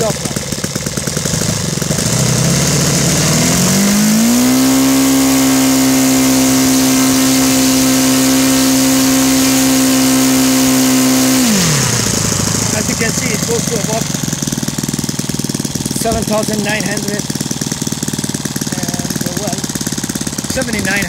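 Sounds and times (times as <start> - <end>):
model aircraft engine revving: 0.0 - 21.0.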